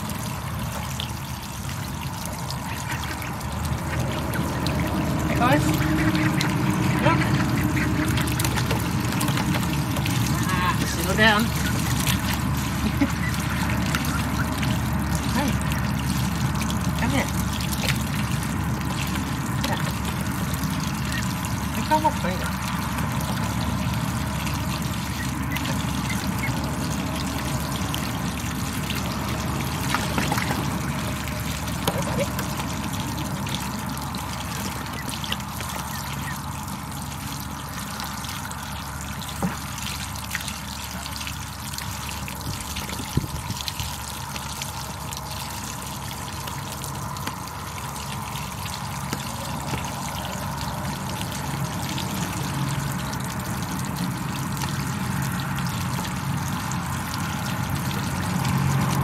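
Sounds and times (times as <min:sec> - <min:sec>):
water pouring into plastic tub: 0:00.0 - 0:59.0.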